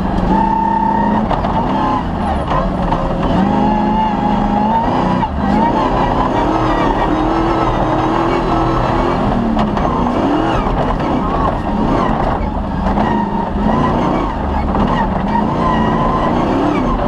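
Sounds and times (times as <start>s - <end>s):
rally car engine working hard: 0.0s - 17.0s.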